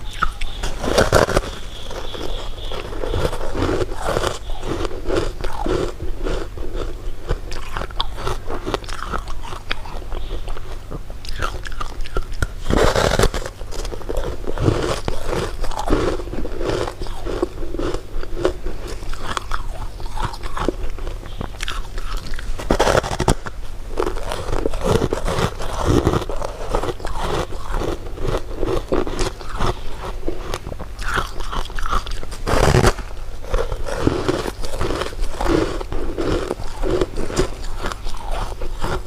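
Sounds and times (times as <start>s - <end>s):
candy crunching while chewed: 0.0s - 39.0s.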